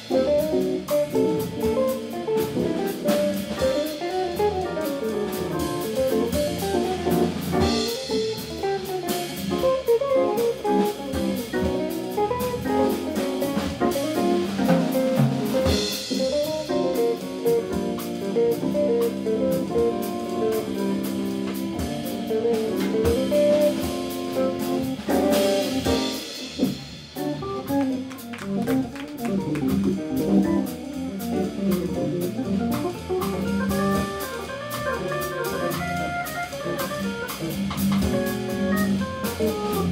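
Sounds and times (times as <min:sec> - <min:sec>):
drums: 0:00.0 - 0:39.9.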